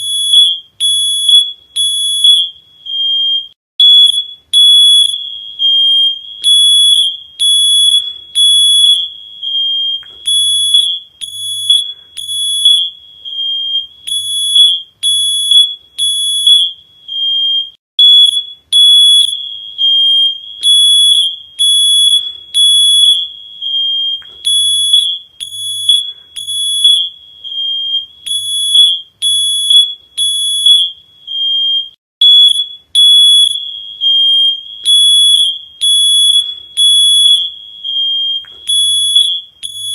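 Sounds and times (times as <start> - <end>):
smoke alarm beeping: 0.0 - 39.9.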